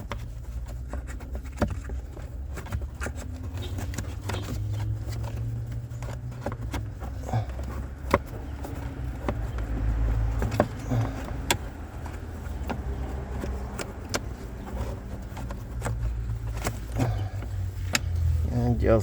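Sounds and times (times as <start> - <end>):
plastic clicks and knocks: 0.0 - 18.2.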